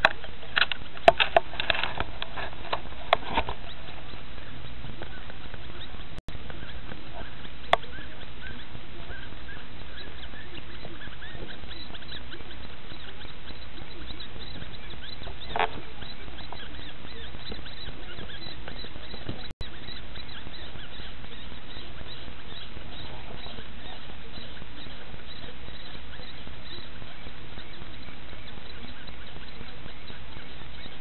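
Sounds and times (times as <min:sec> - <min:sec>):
tiny high squeaks of young animals: 0:00.0 - 0:31.0.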